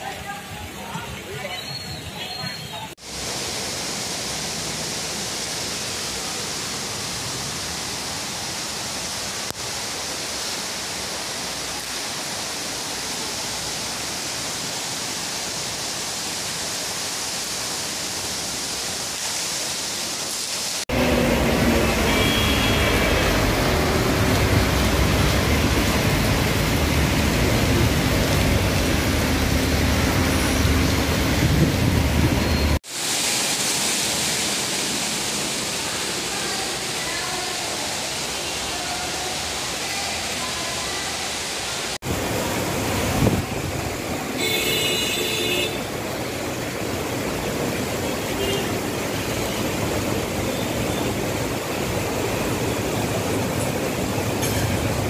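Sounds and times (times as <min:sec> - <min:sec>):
traffic on wet road: 0:00.0 - 0:55.0
heavy rain hiss: 0:03.0 - 0:55.0.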